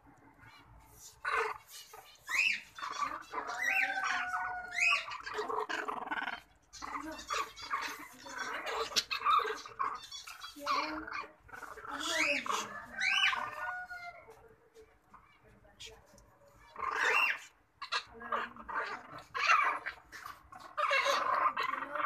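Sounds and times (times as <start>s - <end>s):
puppies squealing and yipping: 0.2s - 14.4s, 16.4s - 22.0s.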